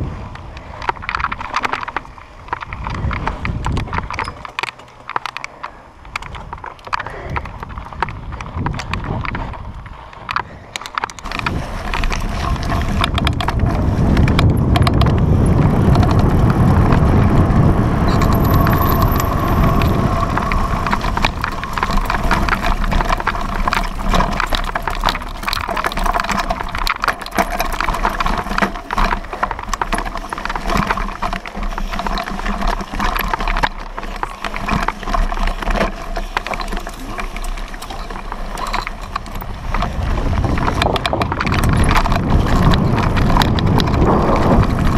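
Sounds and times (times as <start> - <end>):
wind buffeting microphone: 0.0 - 4.5, 5.7 - 44.9
bike rattling over rough ground: 0.0 - 44.9.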